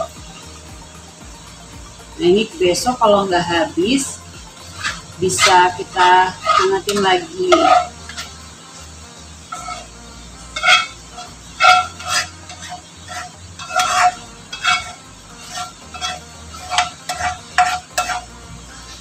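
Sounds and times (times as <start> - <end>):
spatula scraping a frying pan: 2.8 - 19.0.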